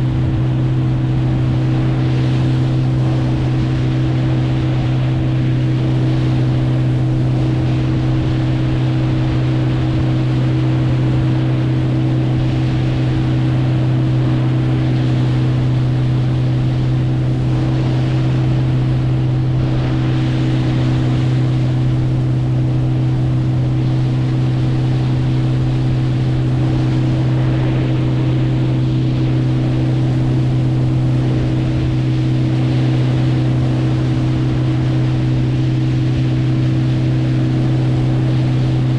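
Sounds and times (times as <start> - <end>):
motorboat engine humming: 0.0 - 38.9
water noise: 0.0 - 38.9
wind noise: 0.0 - 38.9.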